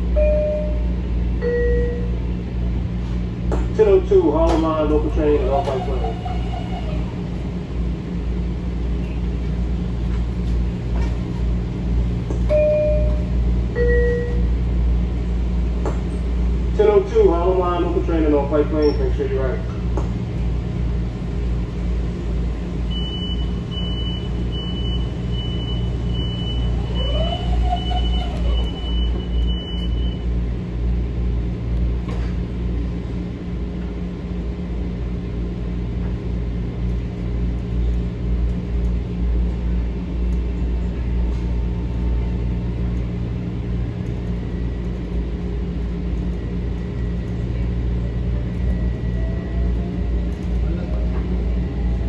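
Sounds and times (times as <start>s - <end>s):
train interior low rumble: 0.0s - 52.0s.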